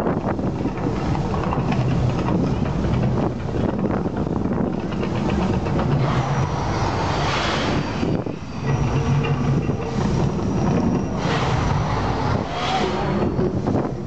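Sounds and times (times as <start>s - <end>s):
deep rumble: 0.0s - 14.0s
gas flame jets rushing: 0.0s - 14.0s.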